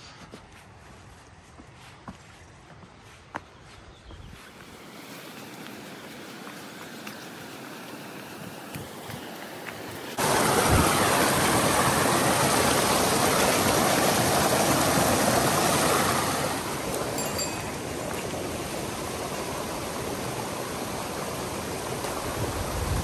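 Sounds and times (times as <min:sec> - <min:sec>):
flowing water rushing: 0:04.5 - 0:23.0.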